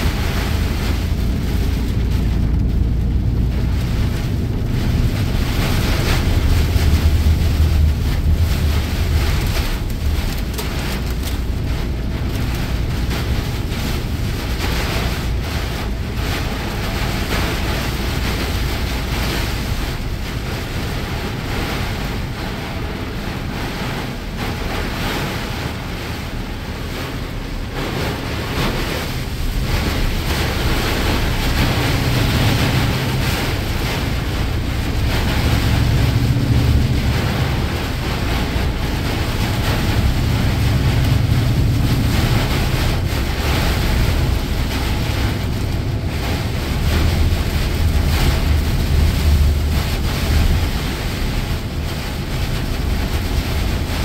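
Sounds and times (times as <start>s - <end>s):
heavy rain on windscreen: 0.0s - 54.0s
low engine and road rumble: 0.0s - 54.0s
tyres rushing on wet road: 0.0s - 54.0s.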